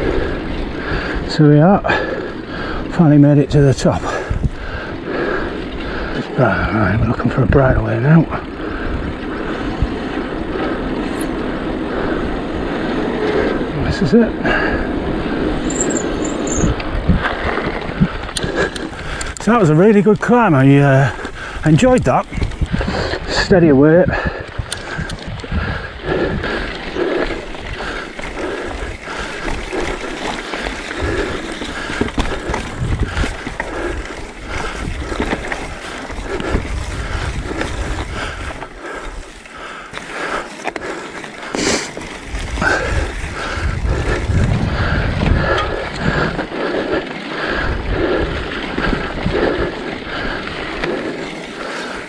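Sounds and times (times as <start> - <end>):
bike rattling over bumps: 0.0 - 52.0
bike tyres on stony ground: 0.0 - 52.0
low wind rumble on microphone: 0.0 - 52.0.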